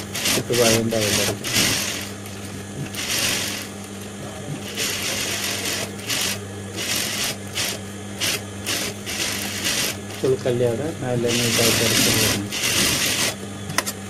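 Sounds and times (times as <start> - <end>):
sewing machine stitching: 0.0 - 2.2, 2.8 - 3.8, 4.5 - 13.4
motor hum: 0.0 - 14.0.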